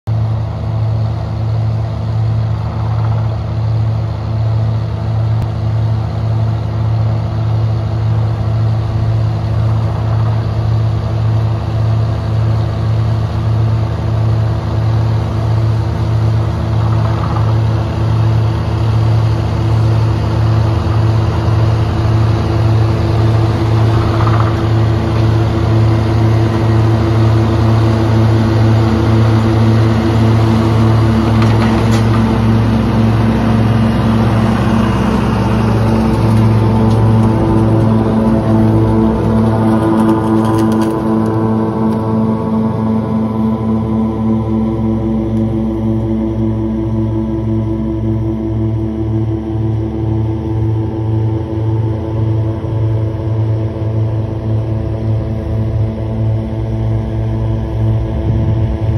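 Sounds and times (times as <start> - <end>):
diesel engine running: 0.1 - 58.9.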